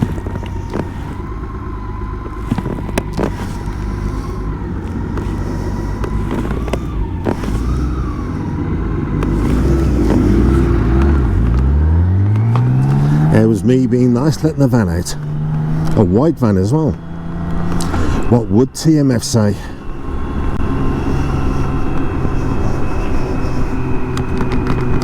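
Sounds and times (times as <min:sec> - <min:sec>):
motorcycle engine running: 0:00.0 - 0:25.0
road and wind rumble: 0:00.0 - 0:25.0.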